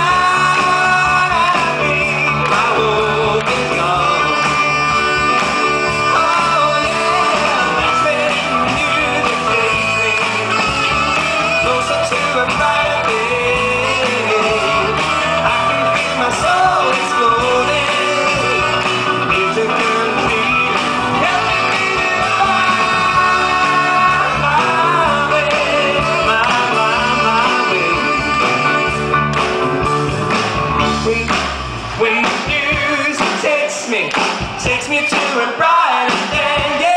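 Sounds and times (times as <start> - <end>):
people singing: 0.0 - 29.1, 32.0 - 36.9
live rock and roll band: 0.0 - 36.9.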